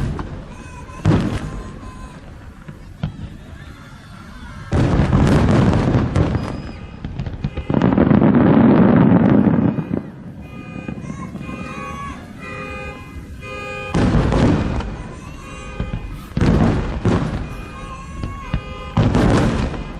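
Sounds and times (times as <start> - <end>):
fireworks bursting in barrage: 0.0 - 19.9.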